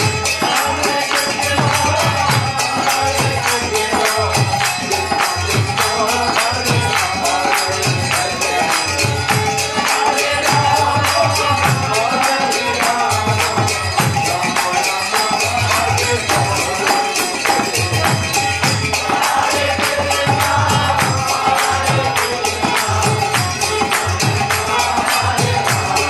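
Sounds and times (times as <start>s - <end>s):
harmonium: 0.0s - 26.0s.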